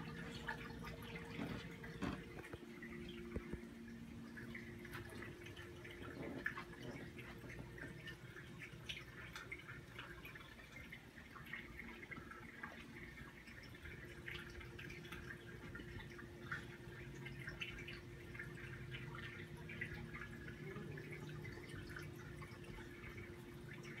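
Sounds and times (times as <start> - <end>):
aquarium water trickling and dripping: 0.0 - 24.0
steady low hum: 0.0 - 24.0.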